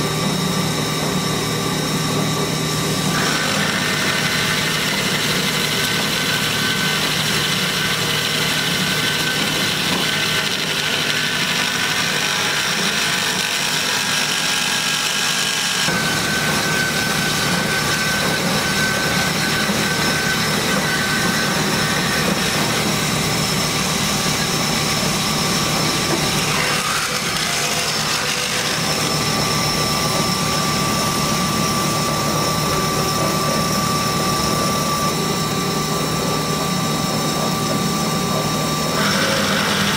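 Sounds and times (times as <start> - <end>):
band saw cutting steel: 0.0 - 39.9.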